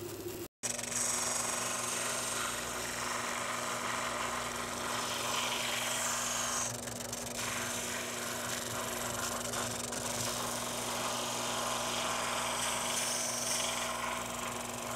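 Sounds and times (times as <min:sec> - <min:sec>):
drill press motor hum: 0:00.0 - 0:14.9.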